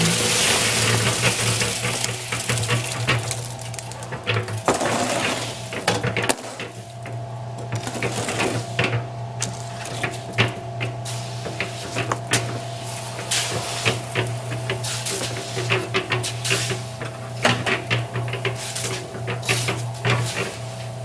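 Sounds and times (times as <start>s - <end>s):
concrete knocking in turning drum: 0.0s - 20.6s
concrete mixer motor hum: 0.0s - 21.0s.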